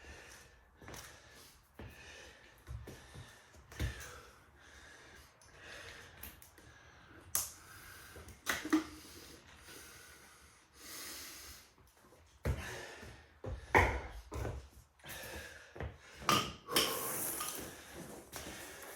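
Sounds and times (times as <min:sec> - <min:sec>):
man breathing hard: 0:00.0 - 0:18.9.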